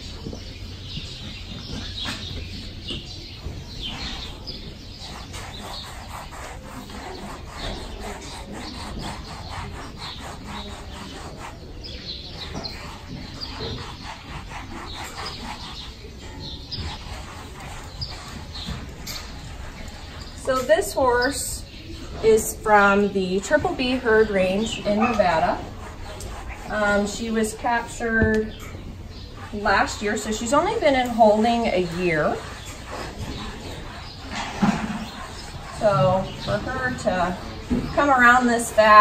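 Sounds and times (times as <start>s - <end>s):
small birds chirping: 0.0s - 39.0s
comb scrubbing horse coat: 0.2s - 28.5s, 29.1s - 39.0s.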